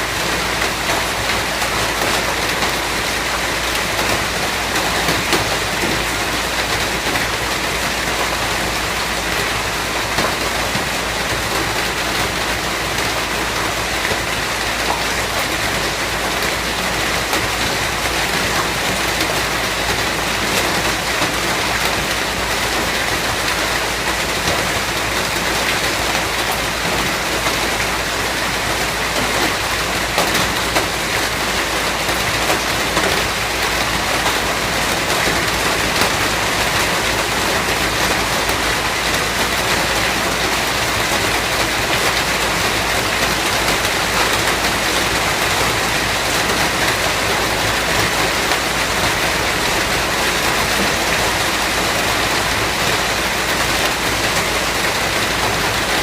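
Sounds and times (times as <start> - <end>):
rain on surfaces: 0.0 - 56.0.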